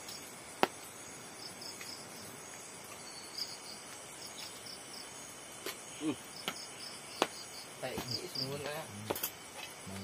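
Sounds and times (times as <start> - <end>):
insects chirping: 0.0 - 10.0
high-pitched insect drone: 1.0 - 10.0.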